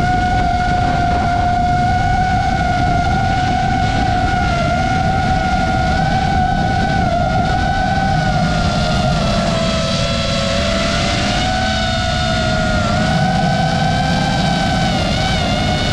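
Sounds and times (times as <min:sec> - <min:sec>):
drone motors whining: 0:00.0 - 0:15.9
wind rumble on microphone: 0:00.0 - 0:15.9.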